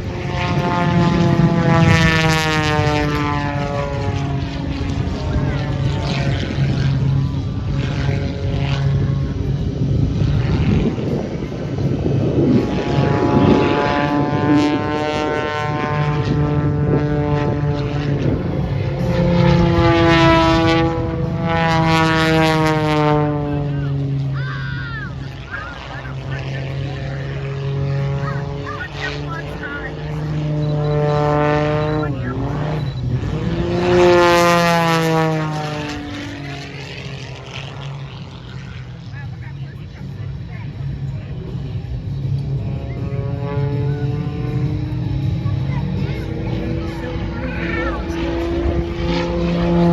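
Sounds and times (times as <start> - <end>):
propeller airplane flying past: 0.0 - 49.9.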